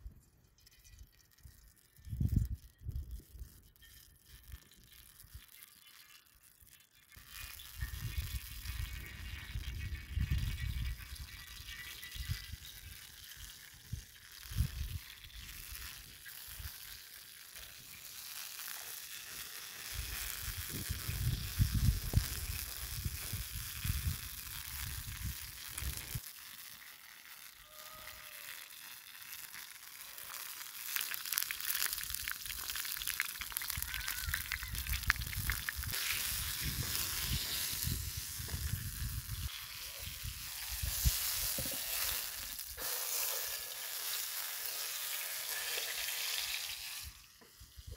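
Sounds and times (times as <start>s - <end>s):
meat frying in oil: 4.3s - 47.9s.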